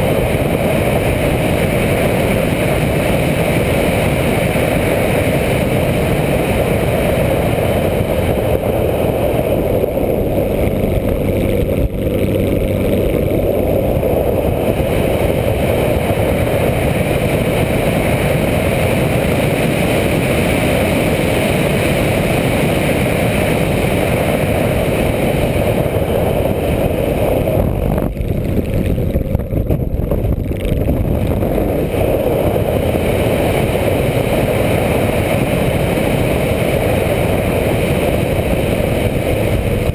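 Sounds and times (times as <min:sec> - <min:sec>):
air rushing over camera: 0:00.0 - 0:39.9
model airplane motor and propeller: 0:00.0 - 0:39.9.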